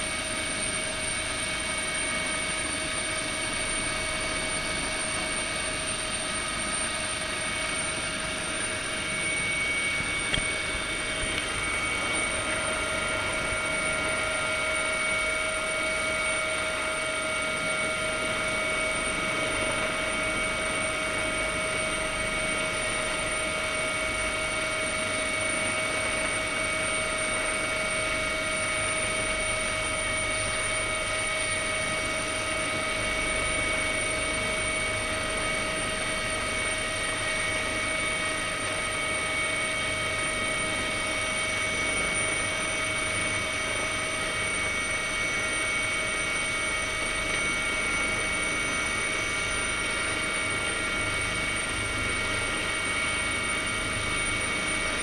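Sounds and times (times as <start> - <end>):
helicopter rotor and turbine din: 0.0 - 55.0.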